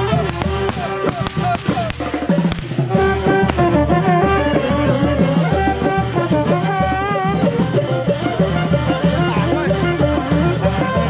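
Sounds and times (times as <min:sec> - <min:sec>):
brass band playing: 0:00.0 - 0:11.0
steady drum beat: 0:00.0 - 0:11.0.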